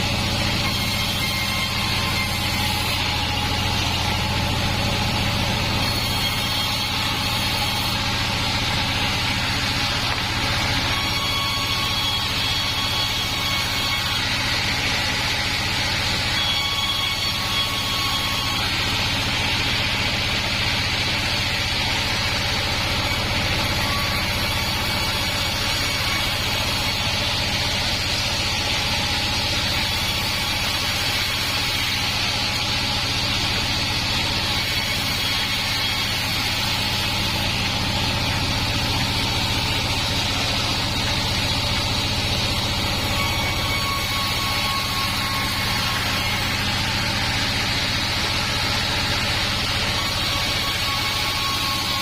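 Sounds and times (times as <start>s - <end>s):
band saw running: 0.0s - 52.0s.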